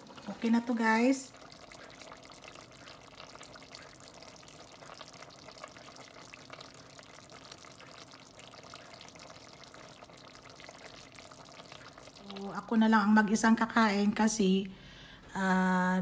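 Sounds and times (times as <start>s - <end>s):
stew bubbling in a pot: 0.0s - 14.6s.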